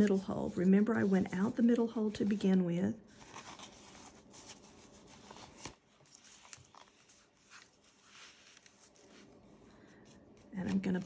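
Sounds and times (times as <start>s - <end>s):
paper pages rustling: 0.0s - 11.0s.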